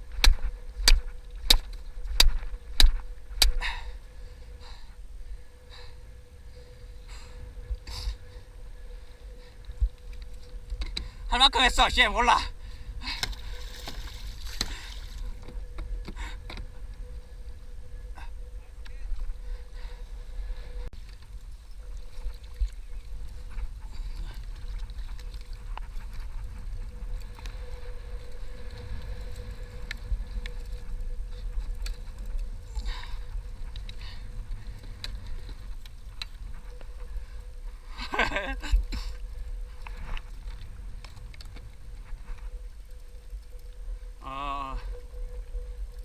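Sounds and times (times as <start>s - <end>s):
boat engine rumble: 0.0s - 46.0s
faint hum: 0.0s - 46.0s.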